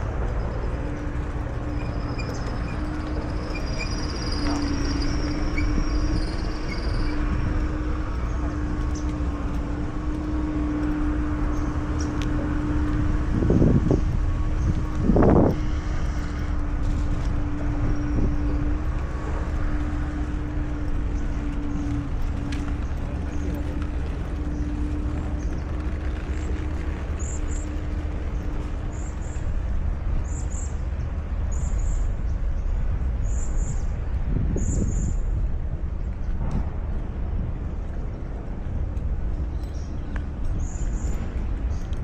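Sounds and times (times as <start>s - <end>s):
low rumble: 0.0s - 42.0s.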